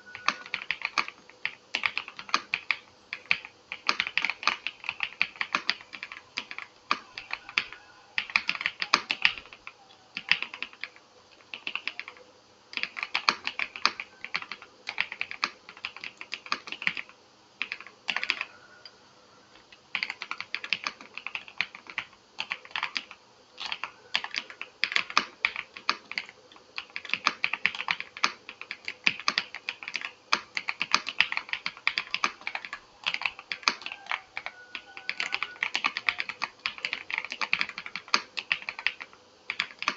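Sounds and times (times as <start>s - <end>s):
mechanical keyboard typing: 0.0s - 18.5s, 19.9s - 39.9s.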